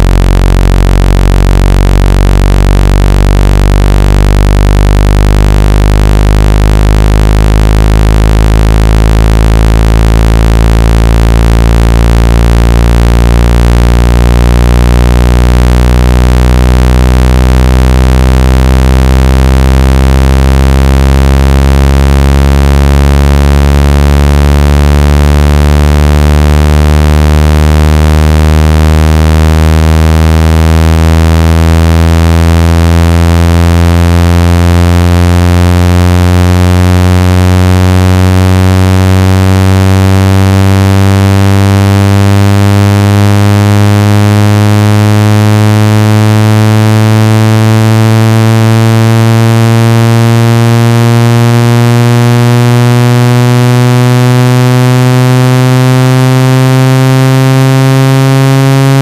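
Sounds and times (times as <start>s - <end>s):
synthetic buzzing tone rising: 0.0s - 59.0s.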